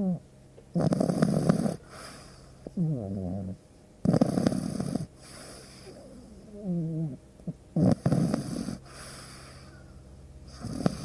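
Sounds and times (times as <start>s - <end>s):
dog snoring: 0.0s - 9.8s, 10.5s - 11.0s
soft breathy breaths: 1.0s - 3.6s, 4.2s - 11.0s.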